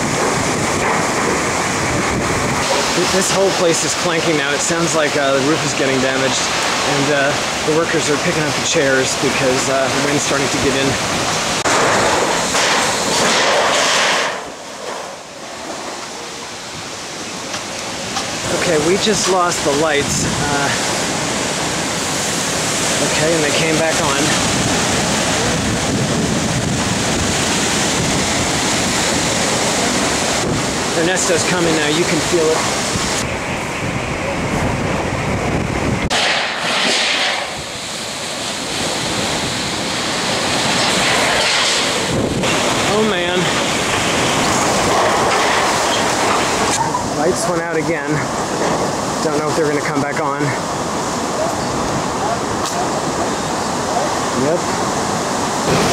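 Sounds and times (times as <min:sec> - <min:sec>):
wind and rain rushing: 0:00.0 - 0:55.9.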